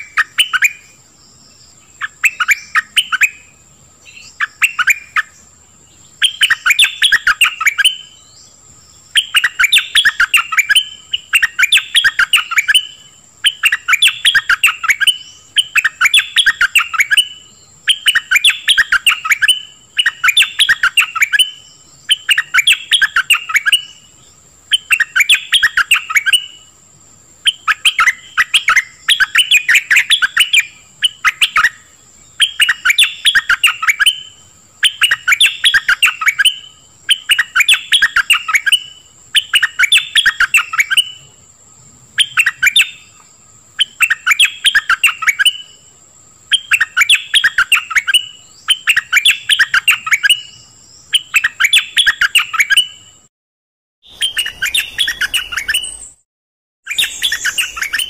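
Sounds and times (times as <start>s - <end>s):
bulbul singing: 0.0s - 53.3s, 54.0s - 56.2s, 56.9s - 58.0s.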